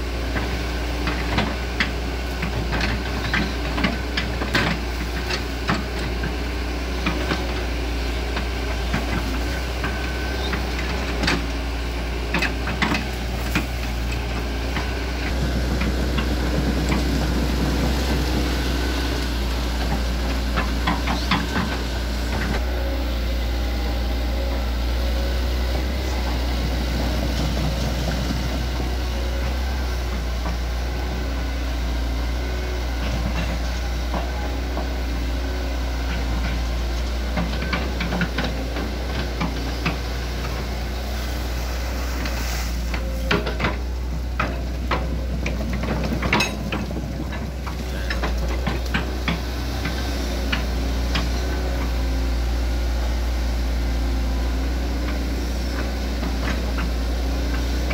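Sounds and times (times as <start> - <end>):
crawler tracks clanking: 0.0 - 57.9
excavator diesel engine running: 0.0 - 57.9.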